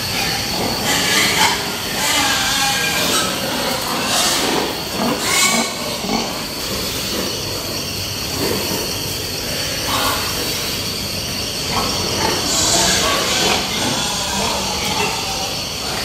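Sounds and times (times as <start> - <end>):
pigs calling and squealing: 0.0 - 16.0.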